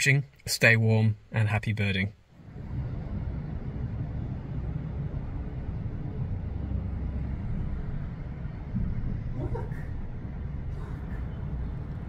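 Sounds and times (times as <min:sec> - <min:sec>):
street traffic rumble: 0:02.2 - 0:12.0.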